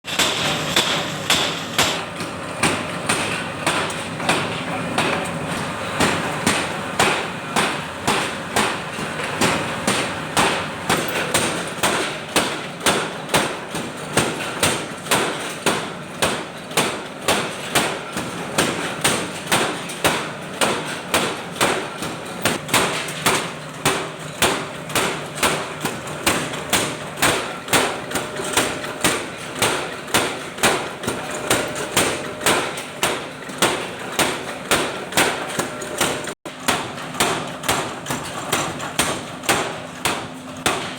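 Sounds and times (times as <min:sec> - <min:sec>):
hammer striking hot metal: 0:00.1 - 0:40.9.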